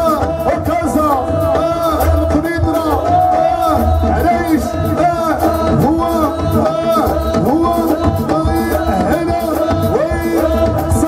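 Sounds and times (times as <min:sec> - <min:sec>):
bass guitar: 0:00.0 - 0:11.0
hand drum rhythm: 0:00.0 - 0:11.0
person singing: 0:00.0 - 0:11.0.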